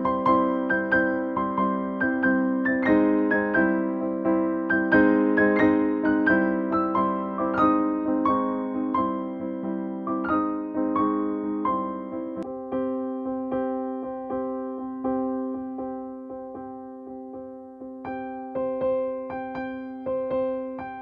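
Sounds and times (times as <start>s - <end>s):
gentle keyboard music: 0.0s - 21.0s.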